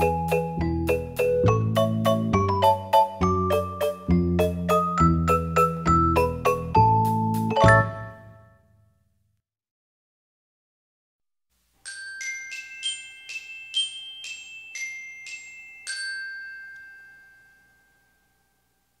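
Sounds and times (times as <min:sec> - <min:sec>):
glockenspiel jingle: 0:00.0 - 0:08.6, 0:11.8 - 0:19.0.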